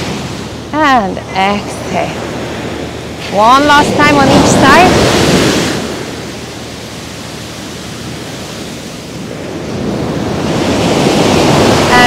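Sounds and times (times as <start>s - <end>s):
ocean surf on sandy beach: 0.0s - 12.0s.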